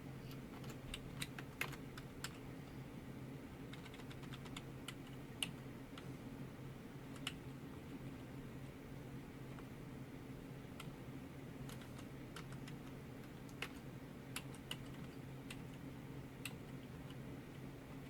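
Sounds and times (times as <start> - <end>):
computer low hum: 0.0 - 18.0.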